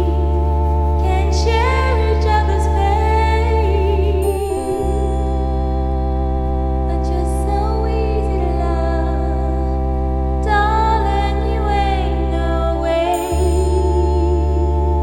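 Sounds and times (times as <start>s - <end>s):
organ-like chords: 0.0s - 15.0s
person singing: 0.0s - 15.0s
steady bass: 0.0s - 15.0s.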